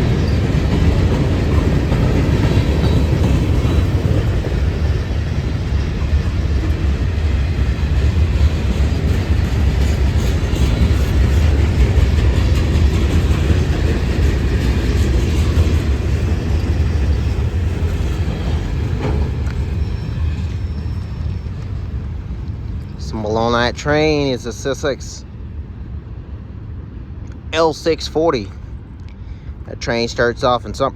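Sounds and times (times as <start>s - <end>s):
train wheels rumbling on rail: 0.0s - 30.9s.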